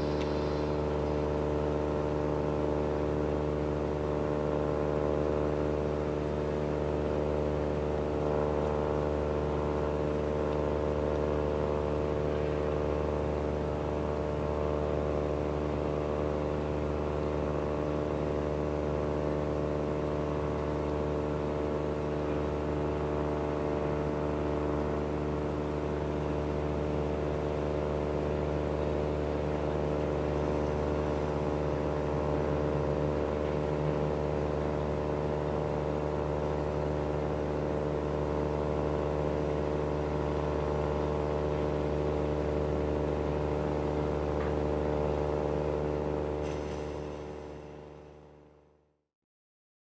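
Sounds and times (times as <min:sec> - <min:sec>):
low engine drone: 0:00.0 - 0:49.0.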